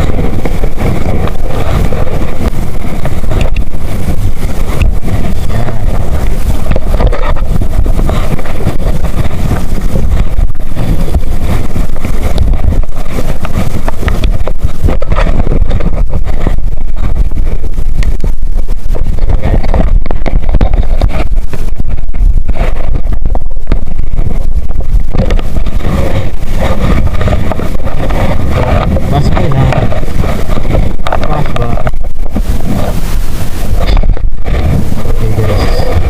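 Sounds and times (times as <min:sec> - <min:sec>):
small boat motor rumbling: 0:00.0 - 0:36.0
wind buffeting microphone: 0:00.0 - 0:36.0.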